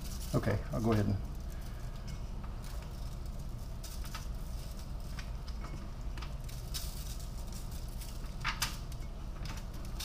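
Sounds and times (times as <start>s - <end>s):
light ticks and rustles: 0.0s - 10.0s
low steady hum: 0.0s - 10.0s.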